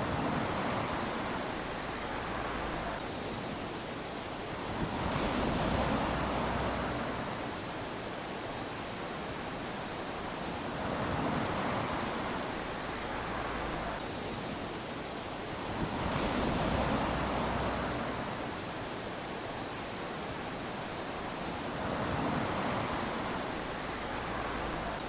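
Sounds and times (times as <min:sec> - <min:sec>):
small waves lapping on sand: 0:00.0 - 0:25.0.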